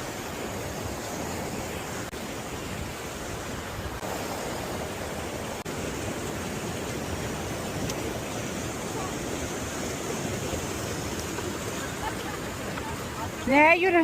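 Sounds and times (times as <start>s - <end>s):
mountain river rushing: 0.0s - 14.0s.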